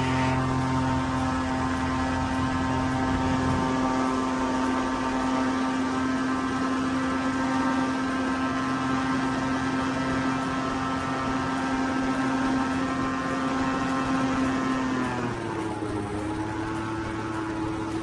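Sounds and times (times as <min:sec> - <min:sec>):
airboat engine and propeller: 0:00.0 - 0:18.0.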